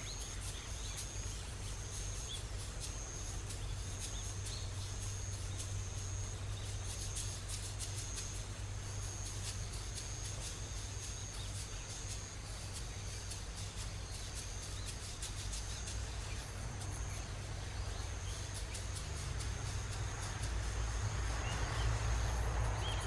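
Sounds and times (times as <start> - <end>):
insects trilling: 0.0 - 23.0
low steady rumble: 0.0 - 23.0.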